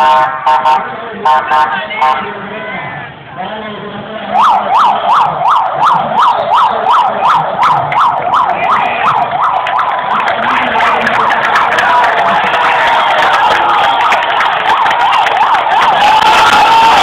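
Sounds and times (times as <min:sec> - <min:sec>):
electronic siren yelp: 0:00.0 - 0:02.2, 0:04.3 - 0:17.0.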